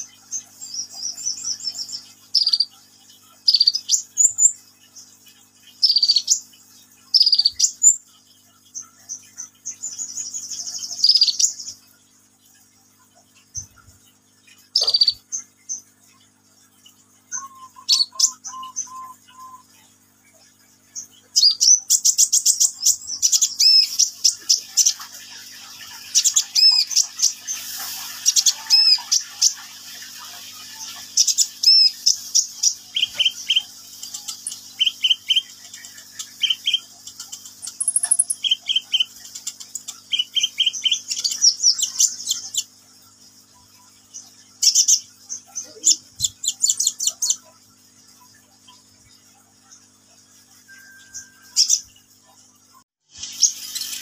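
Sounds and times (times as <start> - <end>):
bird chirps and trills: 0.0 - 54.0
faint steady hum: 0.0 - 54.0.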